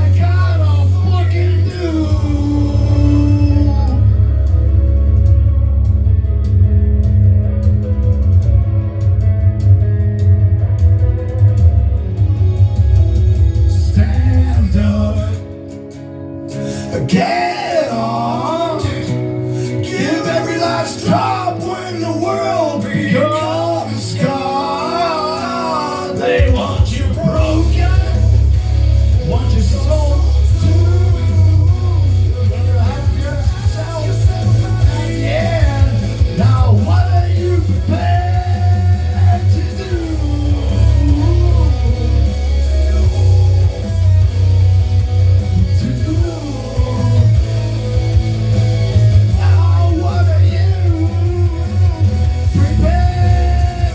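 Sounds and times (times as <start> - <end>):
heavy loud bass: 0.0 - 15.8, 16.5 - 53.9
guitar: 0.0 - 53.9
man singing rock song: 0.0 - 53.9.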